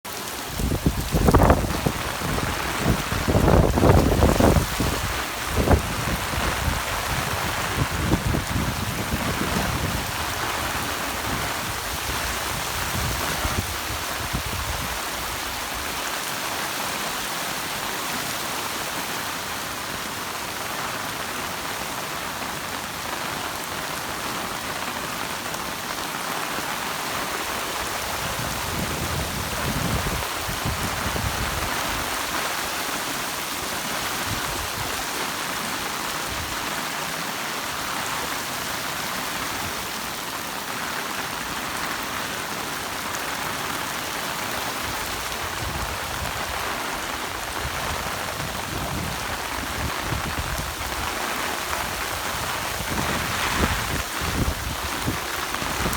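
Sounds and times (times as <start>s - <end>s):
heavy rain hissing: 0.1s - 55.9s.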